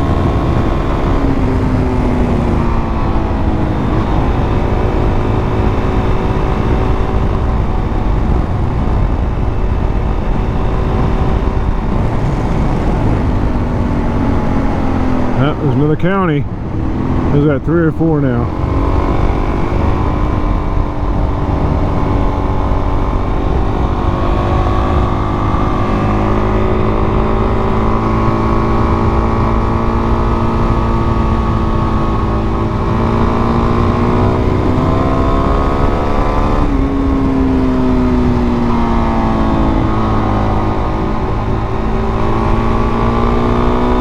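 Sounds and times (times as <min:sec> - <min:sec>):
dirt bike engine running: 0:00.0 - 0:44.0
wind rumble on microphone: 0:00.0 - 0:44.0.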